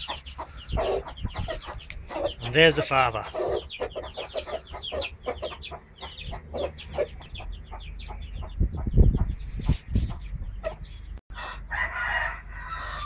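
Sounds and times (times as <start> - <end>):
chickens clucking: 0.0 - 11.8.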